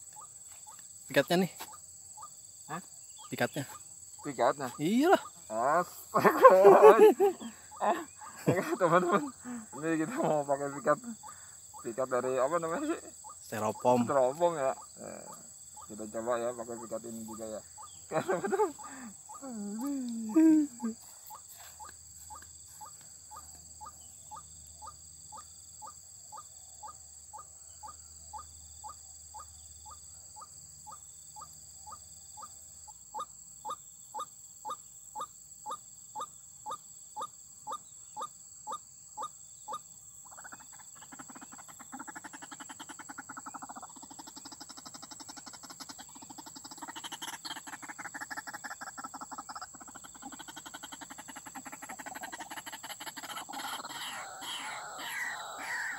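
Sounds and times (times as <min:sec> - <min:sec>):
croaking chatter: 0:00.0 - 0:32.5, 0:33.1 - 0:55.9.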